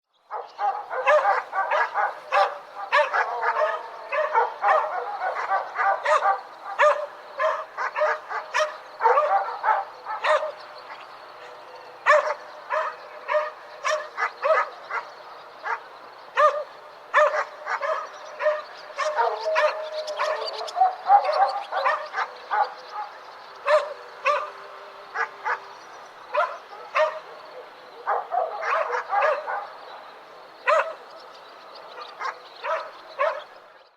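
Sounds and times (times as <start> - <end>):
dogs barking: 0.3 - 30.0, 30.6 - 31.3, 31.9 - 33.6.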